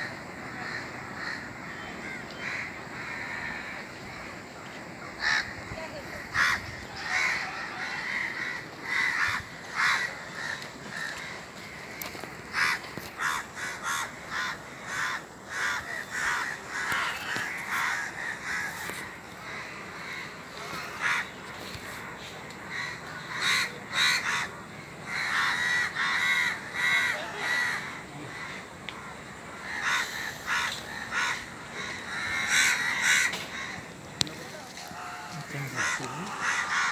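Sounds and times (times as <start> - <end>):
birds calling: 0.0 - 36.9.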